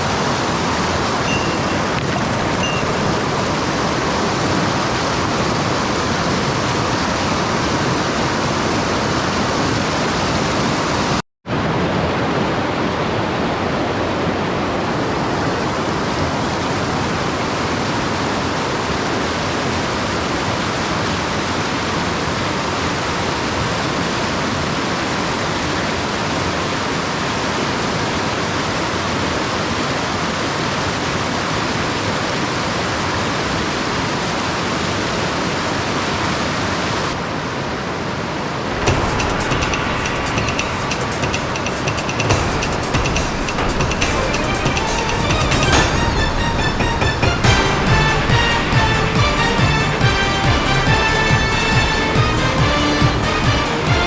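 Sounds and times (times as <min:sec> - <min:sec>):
stream water rushing over rocks: 0:00.0 - 0:51.4.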